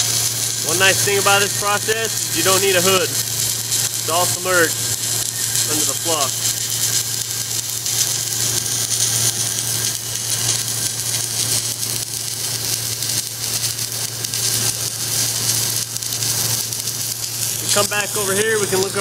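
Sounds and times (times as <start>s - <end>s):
constant low hum: 0.0s - 19.0s
welder hiss: 0.0s - 19.0s.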